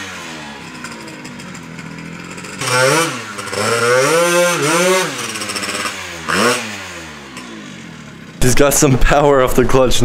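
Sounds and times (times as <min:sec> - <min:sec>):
scooter engine revving: 0:00.0 - 0:09.3.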